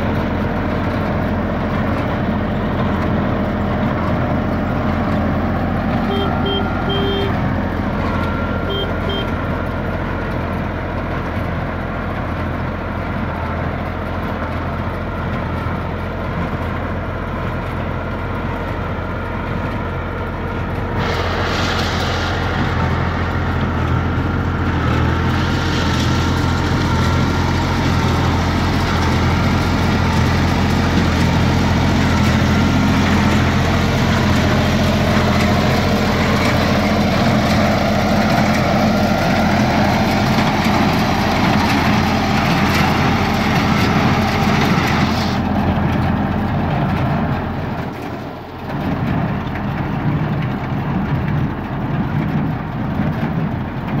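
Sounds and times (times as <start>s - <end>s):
hay baler working: 0.0s - 54.0s
tractor diesel engine running: 0.0s - 54.0s.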